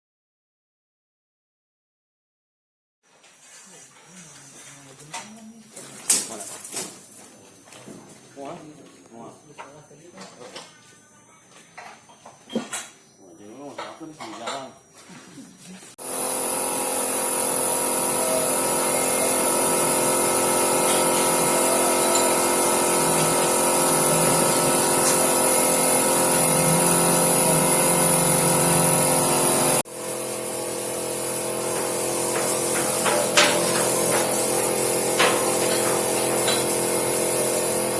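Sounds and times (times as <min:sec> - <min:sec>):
machine humming with high whine: 0:06.9 - 0:37.9.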